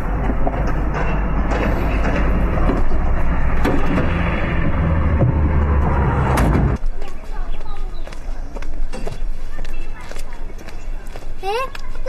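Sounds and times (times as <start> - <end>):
low vehicle engine rumble: 0.0 - 11.0.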